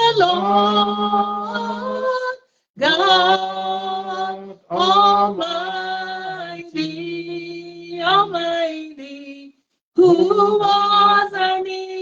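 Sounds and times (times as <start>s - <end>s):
person singing worship chorus: 0.0s - 12.0s.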